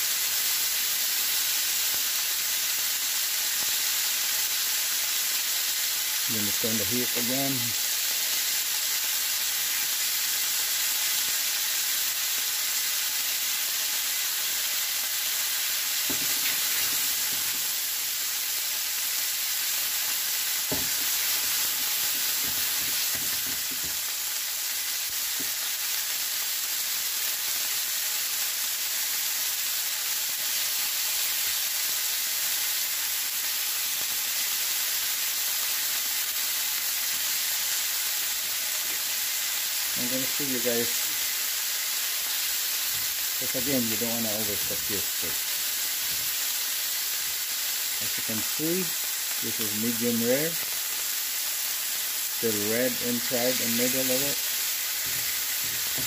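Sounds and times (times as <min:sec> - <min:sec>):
steak sizzling in a frying pan: 0:00.0 - 0:56.0.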